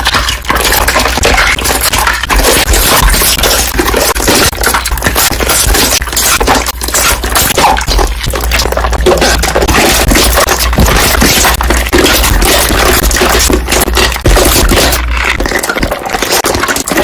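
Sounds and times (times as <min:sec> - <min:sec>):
slime bubbles popping: 0:00.0 - 0:17.0.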